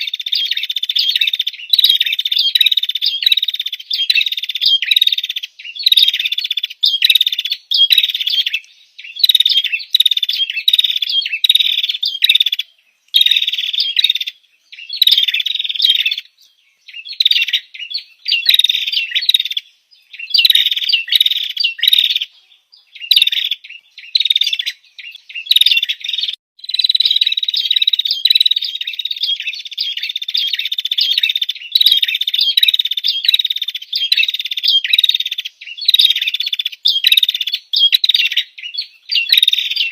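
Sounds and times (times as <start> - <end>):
bird chirping trills: 0.0 - 39.9.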